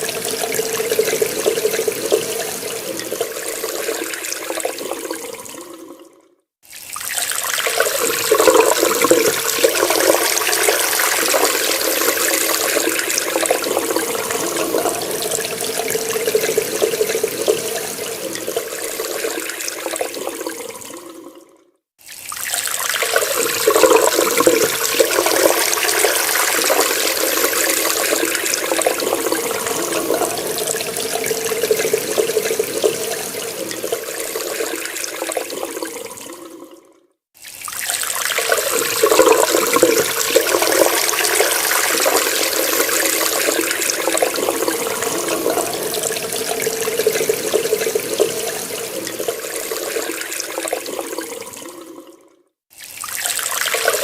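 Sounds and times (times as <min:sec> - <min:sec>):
tap water running into sink: 0:00.0 - 0:05.9, 0:06.7 - 0:21.4, 0:22.0 - 0:36.7, 0:37.4 - 0:54.0.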